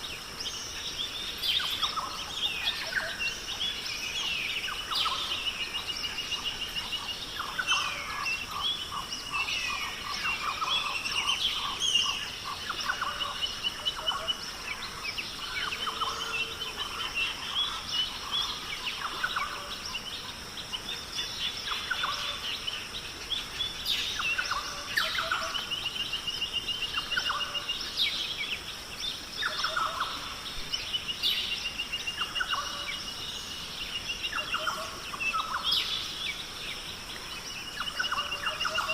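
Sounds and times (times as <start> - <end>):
steady high hiss: 0.0 - 38.9
wild birds singing and calling: 0.0 - 38.9.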